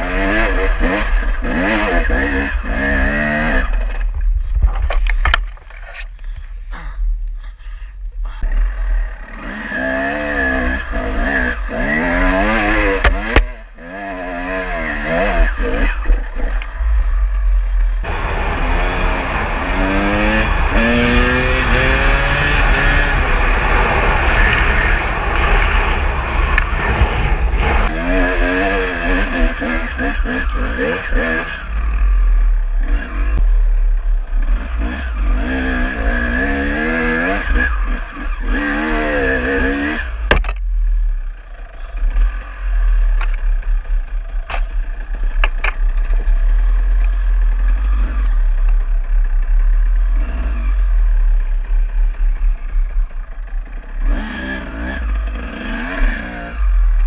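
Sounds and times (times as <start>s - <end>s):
motorcycle engine revving: 0.0s - 4.2s, 8.3s - 57.0s.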